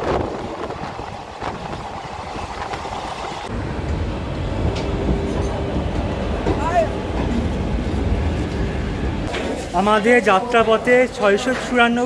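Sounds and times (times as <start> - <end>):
passenger train rumbling on track: 0.0 - 12.0.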